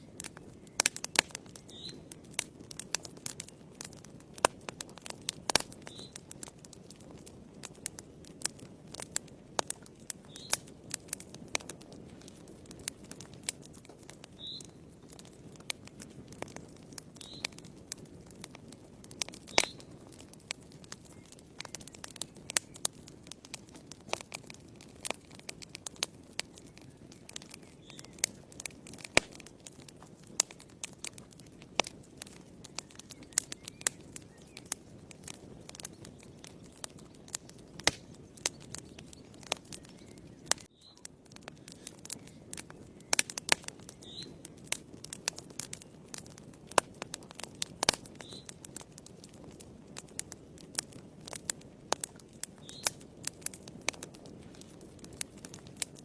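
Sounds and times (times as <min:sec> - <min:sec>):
crackles and pops of burning logs: 0:00.0 - 0:56.0
low rush of flames: 0:00.0 - 0:56.0.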